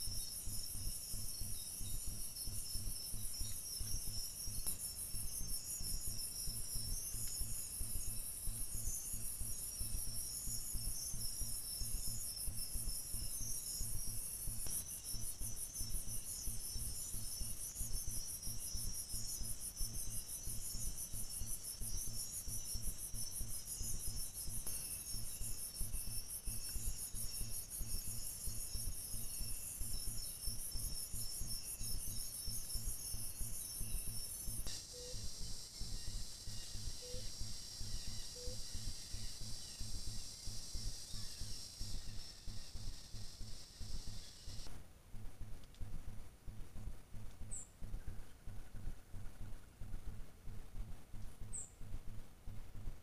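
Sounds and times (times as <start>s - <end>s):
insects trilling: 0.0s - 44.7s
cricket chirps: 0.0s - 44.8s, 45.4s - 53.0s.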